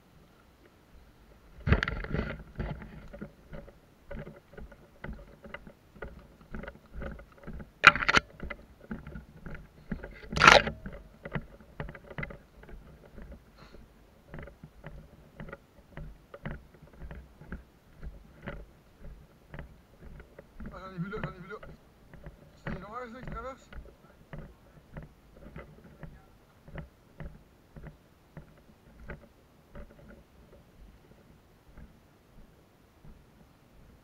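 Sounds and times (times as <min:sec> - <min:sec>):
footsteps on dirt and grass: 0:01.5 - 0:29.2
gear rustling and knocking: 0:01.5 - 0:34.0.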